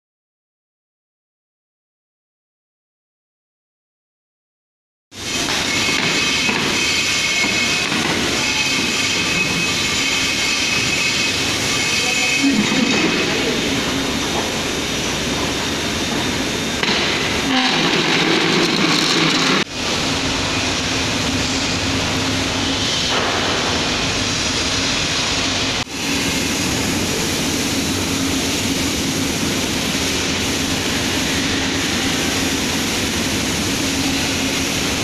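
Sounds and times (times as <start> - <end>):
factory machinery drone: 5.1 - 35.0.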